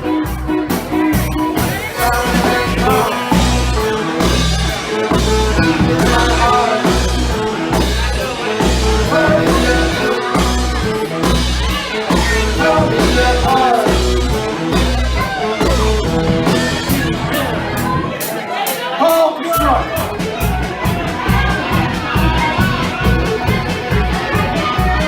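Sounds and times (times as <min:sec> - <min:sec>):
polka band music: 0:00.0 - 0:25.0.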